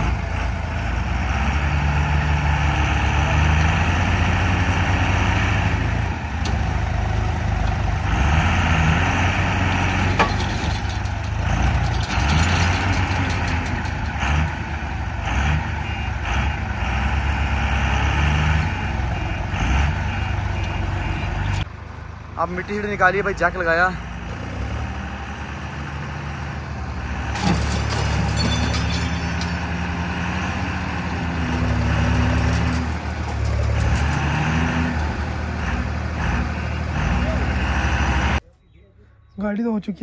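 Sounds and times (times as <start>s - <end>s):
diesel truck engine revving: 0.0s - 38.4s.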